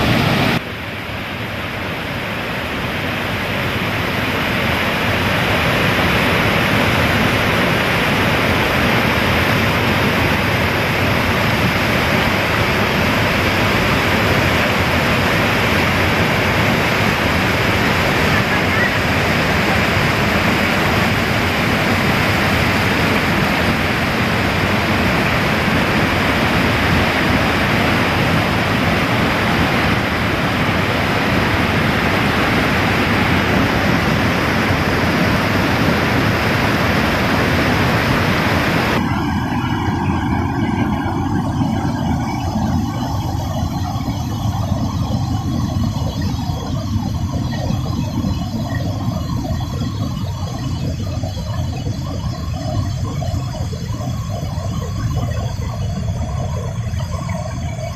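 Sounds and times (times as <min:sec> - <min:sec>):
river rapids rushing over boulders: 0:00.0 - 0:57.8.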